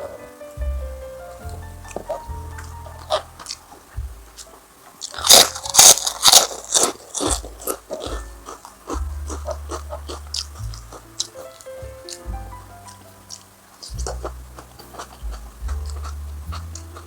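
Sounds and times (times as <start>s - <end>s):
quiet chewing: 1.4s - 12.2s, 12.8s - 17.0s
crunchy food bites: 1.5s - 17.0s.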